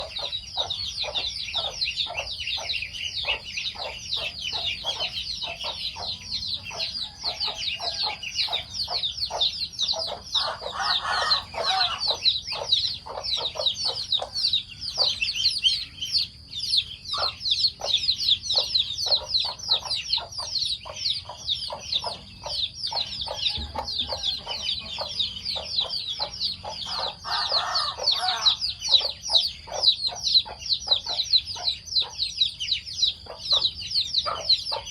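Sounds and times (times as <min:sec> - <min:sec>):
chickens chirping and clucking: 0:00.0 - 0:34.9
loud chicken calls: 0:00.0 - 0:34.9.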